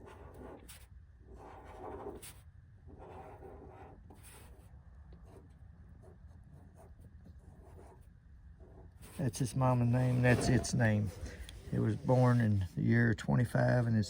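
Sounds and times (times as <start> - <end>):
marker pen scratching on plastic: 0.0 - 12.7.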